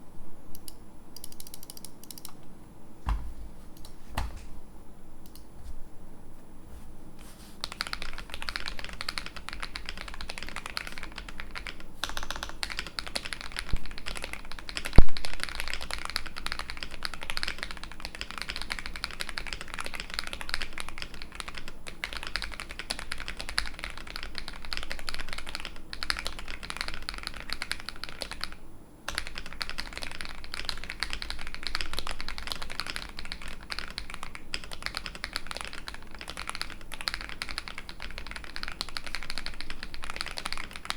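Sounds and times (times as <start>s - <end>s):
typing on a mechanical keyboard: 7.6s - 40.9s.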